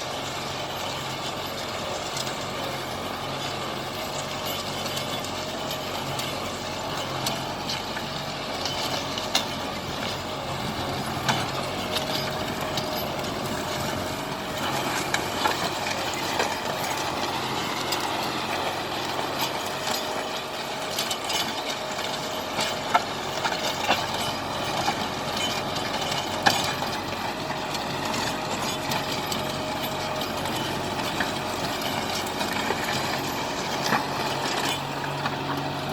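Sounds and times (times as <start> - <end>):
sharp clanks and rattles: 0.0 - 35.9
tractor diesel engine running: 0.0 - 35.9.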